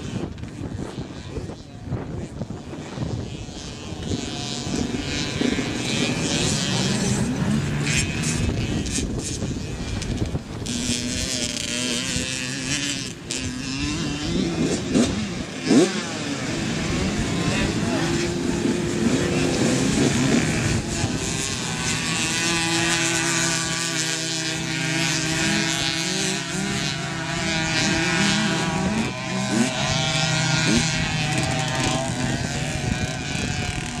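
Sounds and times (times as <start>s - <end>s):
quad and dirt bike engines racing: 0.0s - 34.0s.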